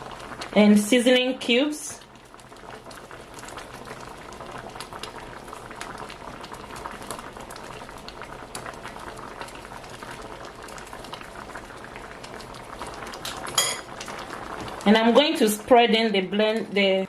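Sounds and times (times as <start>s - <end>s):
broth boiling in a pot: 0.0s - 17.0s.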